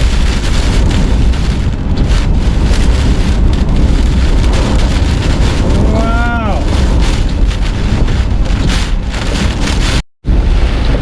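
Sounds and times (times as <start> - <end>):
driving rain: 0.0 - 11.0
hurricane wind rushing: 0.0 - 11.0
wind buffeting microphone: 0.0 - 11.0.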